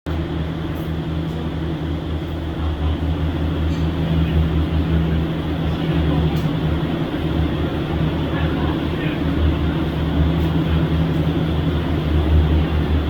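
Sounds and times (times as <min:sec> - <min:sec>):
low hum: 0:00.1 - 0:13.0.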